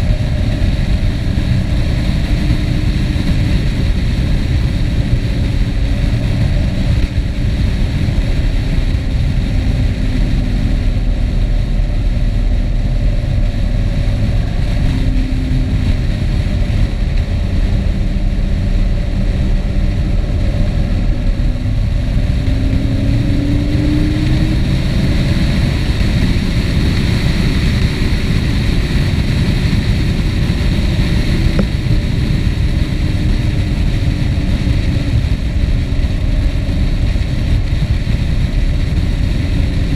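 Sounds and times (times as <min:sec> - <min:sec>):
road noise: 0:00.0 - 0:39.9
wind rush: 0:00.0 - 0:39.9.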